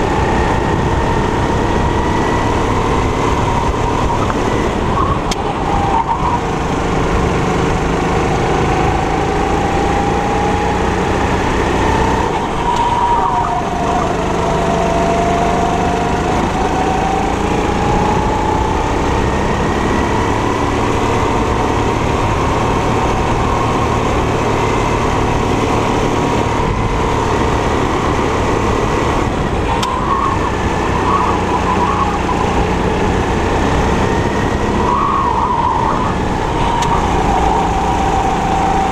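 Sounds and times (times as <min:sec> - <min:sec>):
go-kart engine running hard: 0:00.0 - 0:38.9.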